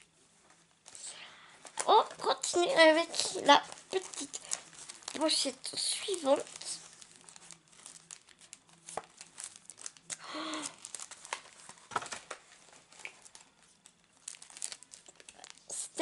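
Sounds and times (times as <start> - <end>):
light crackles and clicks: 1.6 - 15.7
packaging crinkling and rustling: 1.6 - 16.0.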